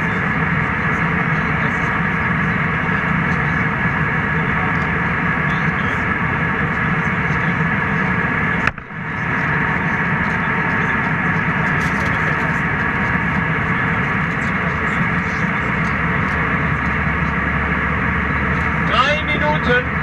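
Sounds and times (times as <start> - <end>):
jet engine and airflow roar: 0.0 - 20.0.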